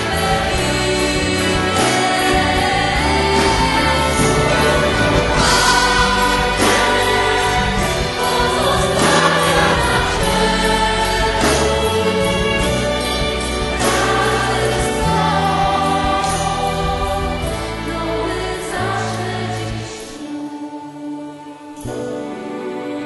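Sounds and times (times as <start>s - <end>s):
choir singing sacred music: 0.0s - 23.0s.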